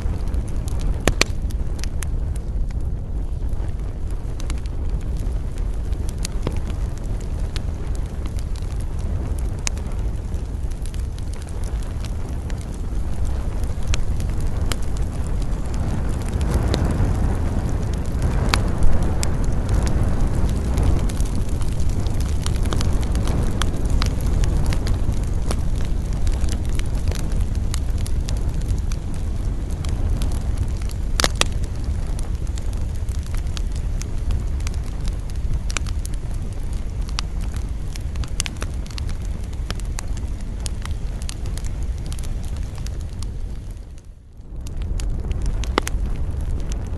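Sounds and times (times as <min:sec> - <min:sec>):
campfire crackling: 0:00.0 - 0:46.9
fire popping: 0:00.0 - 0:46.9
steady low rumble: 0:00.0 - 0:46.9.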